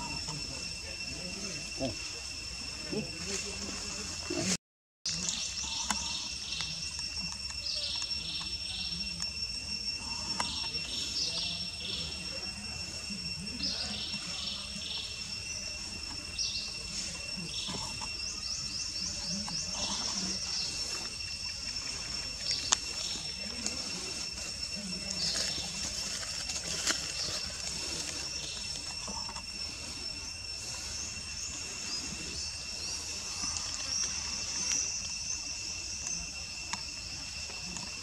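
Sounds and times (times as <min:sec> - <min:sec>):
birds chirping: 0:00.0 - 0:38.0
insects droning: 0:00.0 - 0:38.0.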